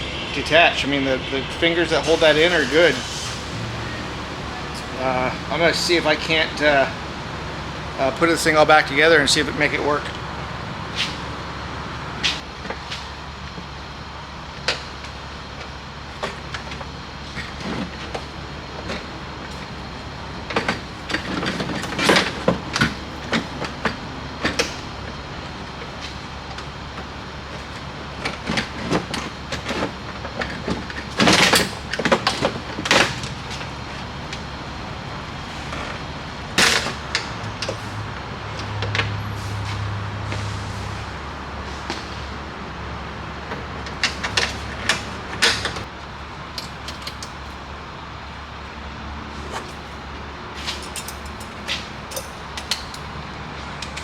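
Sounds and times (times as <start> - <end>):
steady low hum: 0.0 - 46.6.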